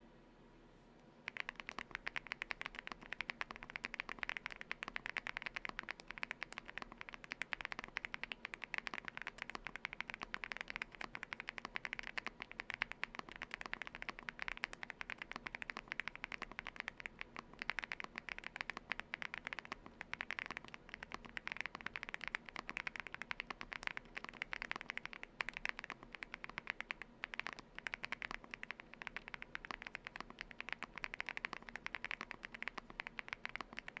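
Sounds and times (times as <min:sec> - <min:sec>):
mechanical keyboard typing: 0:01.2 - 0:34.0.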